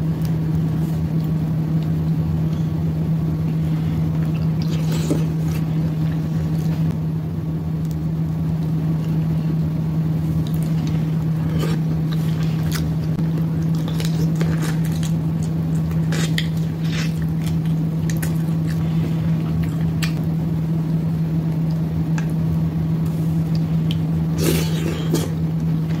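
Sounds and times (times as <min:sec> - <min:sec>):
loud steady low hum: 0:00.0 - 0:26.0.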